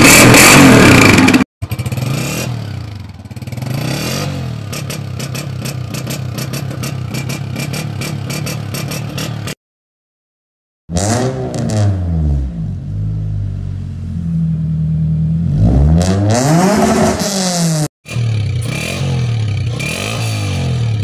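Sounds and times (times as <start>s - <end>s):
motorcycle engine revving: 0.0s - 9.6s, 10.9s - 21.0s.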